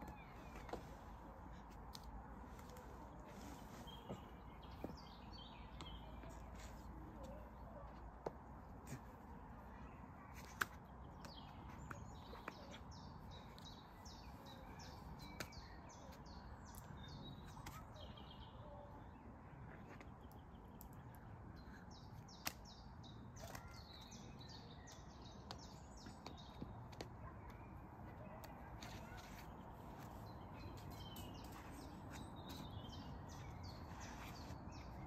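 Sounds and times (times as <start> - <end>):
songbird singing: 0.0 - 8.7, 9.4 - 35.0.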